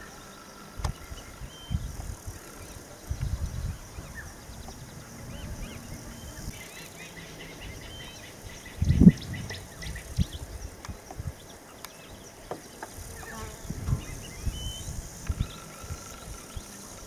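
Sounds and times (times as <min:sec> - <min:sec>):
birds chirping: 0:00.0 - 0:17.0
insect hum: 0:00.0 - 0:17.0.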